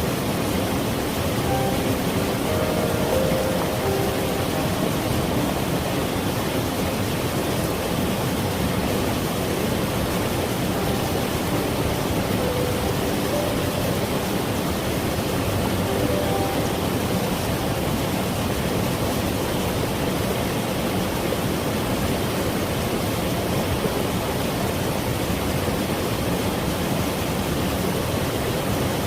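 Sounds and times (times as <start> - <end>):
stream splashing over rocks: 0.0 - 29.0.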